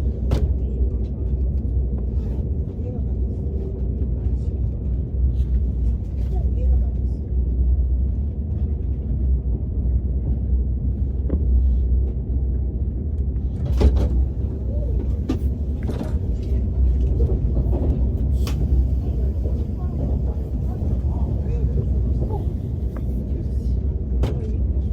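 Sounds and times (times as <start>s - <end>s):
train rumbling inside carriage: 0.0s - 24.9s.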